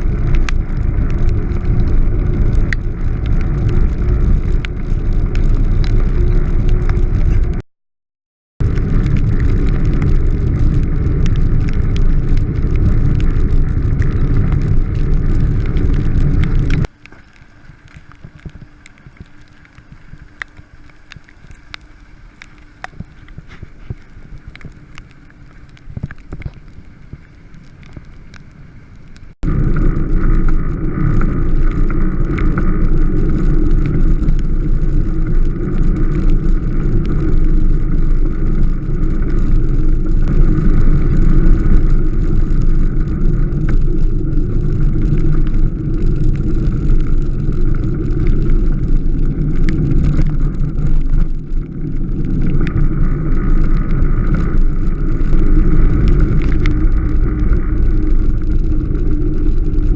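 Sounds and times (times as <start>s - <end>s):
velomobile rolling rumble: 0.0s - 7.6s, 8.6s - 59.9s.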